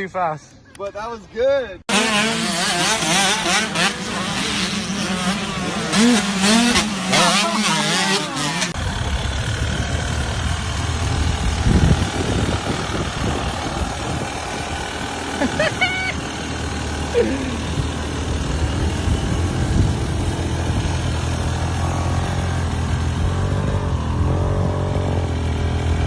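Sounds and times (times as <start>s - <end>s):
rough engine rumble: 1.8s - 26.0s
dirt bike engine revving: 1.9s - 26.0s.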